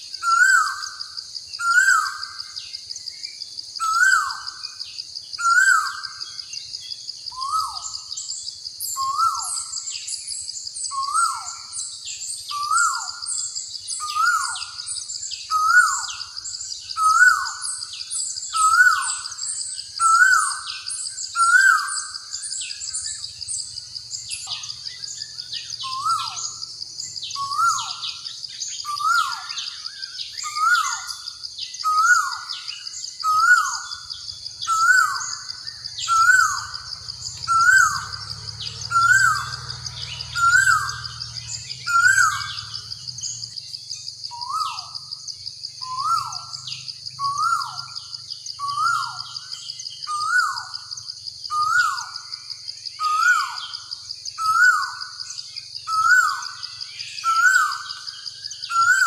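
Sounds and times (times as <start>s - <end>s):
bird calling: 7.3s - 8.3s, 8.9s - 43.6s, 44.3s - 45.2s, 45.8s - 50.9s, 51.5s - 52.3s, 53.0s - 59.0s.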